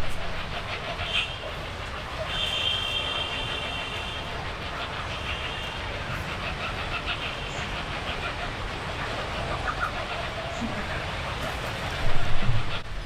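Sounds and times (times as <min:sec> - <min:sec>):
low rumble of distant traffic: 0:00.0 - 0:13.0.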